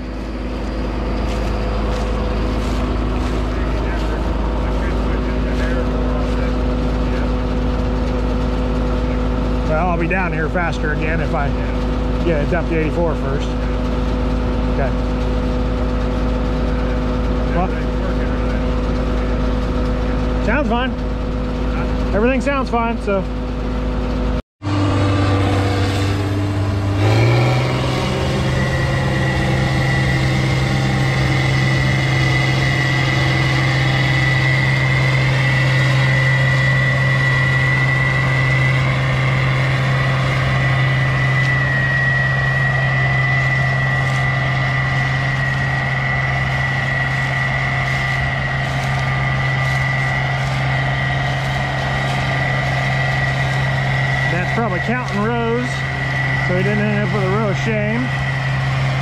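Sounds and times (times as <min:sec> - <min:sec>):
high whine: 0:00.0 - 0:59.0
vehicle engine running: 0:00.0 - 0:59.0.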